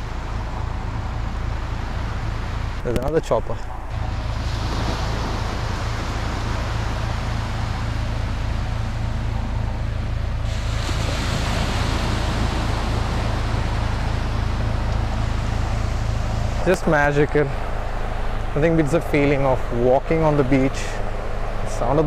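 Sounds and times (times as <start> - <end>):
low rumble: 3.5 - 22.0
sea waves breaking on sand: 3.9 - 22.0.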